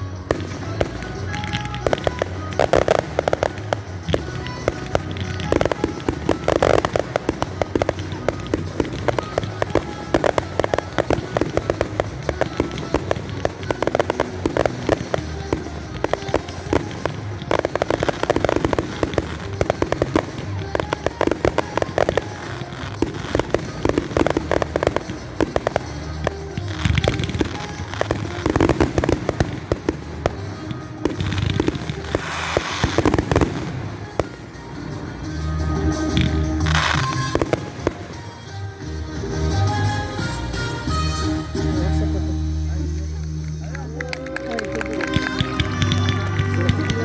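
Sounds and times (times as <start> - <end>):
fireworks crackling and popping: 0.0 - 47.0.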